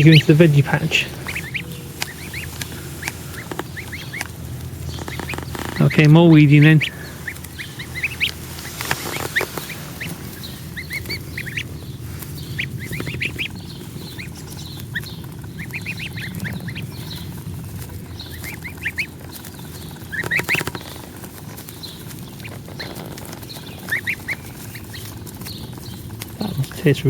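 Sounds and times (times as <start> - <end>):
goslings peeping: 0.0 - 27.0.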